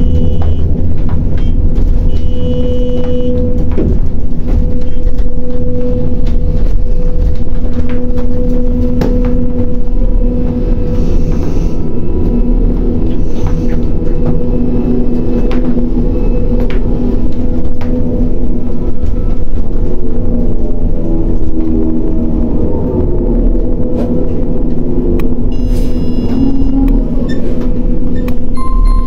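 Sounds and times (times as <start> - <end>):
crane machinery rumbling: 0.0 - 29.0.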